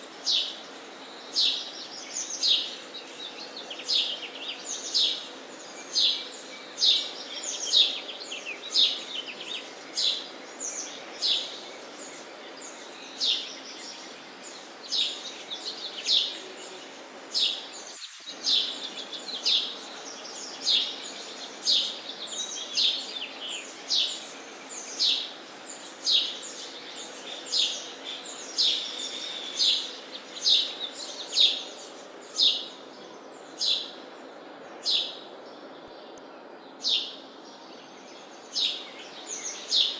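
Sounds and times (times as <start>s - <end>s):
sparrows chirping: 0.0s - 39.9s
steady background hiss: 0.0s - 39.9s.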